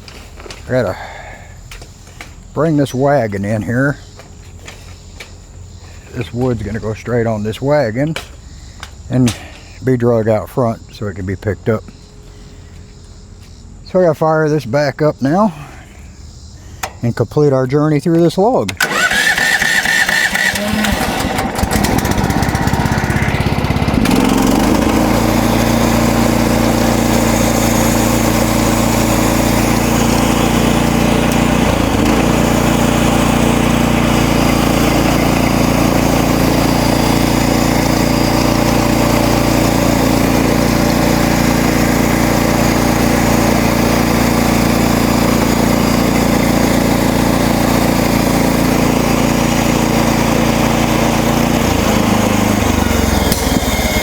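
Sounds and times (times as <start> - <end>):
sawmill gasoline engine: 0.0 - 11.6, 18.2 - 54.0.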